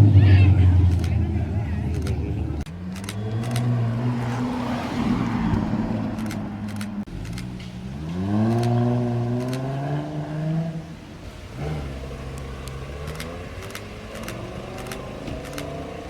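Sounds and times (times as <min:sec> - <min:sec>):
engine running at low revs: 0:00.0 - 0:16.0
sports car engine revving: 0:00.0 - 0:16.0.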